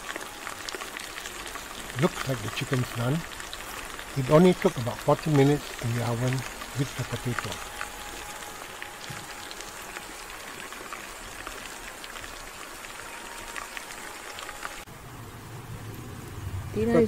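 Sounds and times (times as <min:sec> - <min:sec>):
chicken sizzling in roasting tray: 0:00.0 - 0:14.8.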